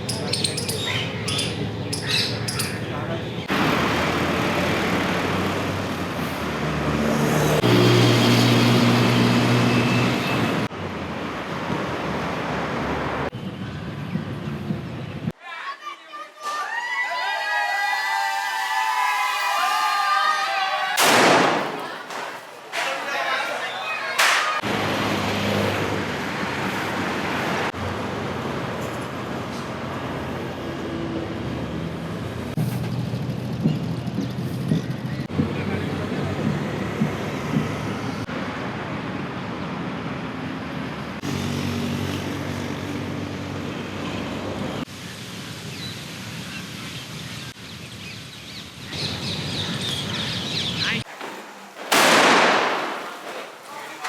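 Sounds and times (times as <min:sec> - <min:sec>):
road traffic rushing: 0:00.0 - 0:15.4, 0:21.0 - 0:54.0.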